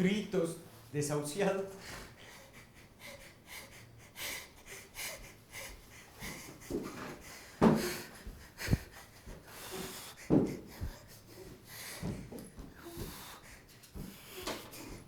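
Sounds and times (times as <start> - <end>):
man breathing hard: 1.7 - 15.0.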